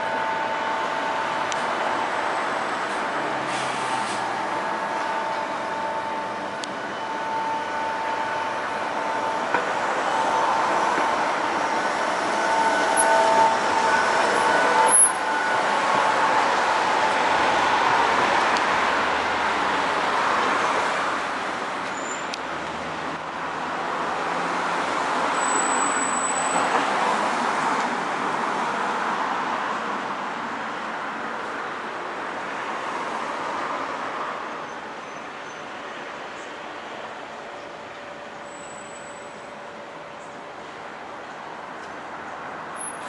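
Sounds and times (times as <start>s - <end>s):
passing road traffic: 0.0s - 43.0s.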